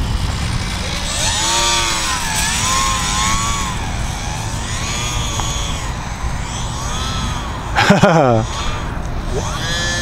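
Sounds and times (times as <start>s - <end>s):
model plane motor whining: 0.0s - 10.0s
steady low rumble: 0.0s - 10.0s.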